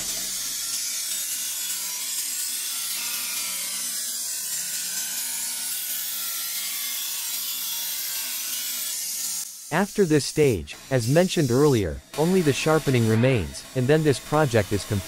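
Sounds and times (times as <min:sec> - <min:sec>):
grinder wheel grinding steel blade: 0:00.0 - 0:15.0.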